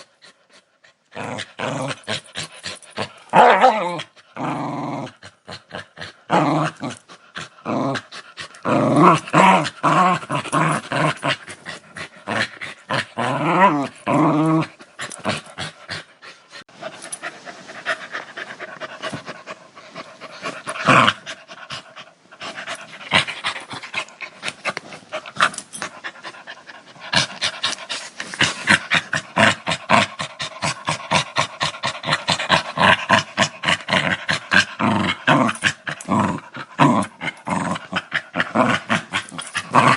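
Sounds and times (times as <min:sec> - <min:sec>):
dog growling: 0:01.1 - 0:16.4, 0:18.1 - 0:39.9.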